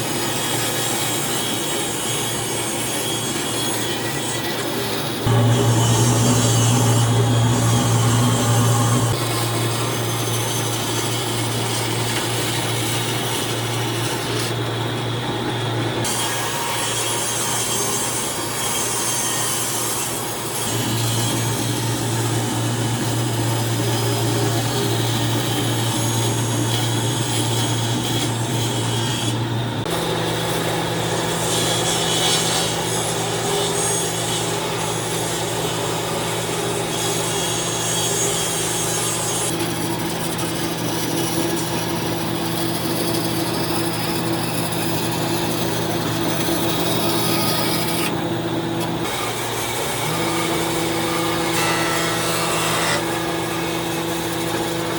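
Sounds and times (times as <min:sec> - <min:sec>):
electric power tool cutting wood: 0:00.0 - 0:54.9.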